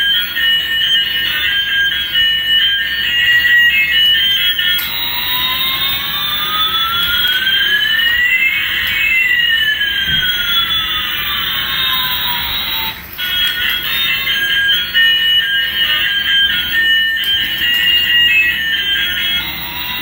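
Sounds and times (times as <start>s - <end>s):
toy jet sound effect: 0.0s - 20.0s.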